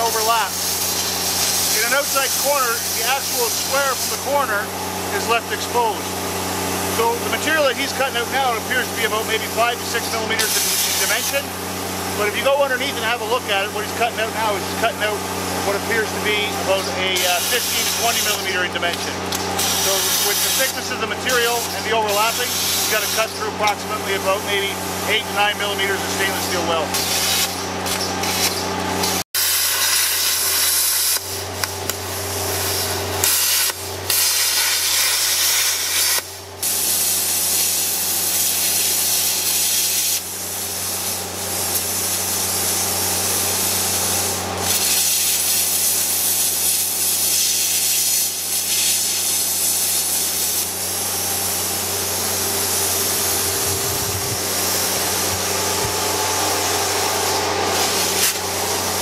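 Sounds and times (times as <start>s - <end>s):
plasma cutter hissing: 0.0s - 59.0s.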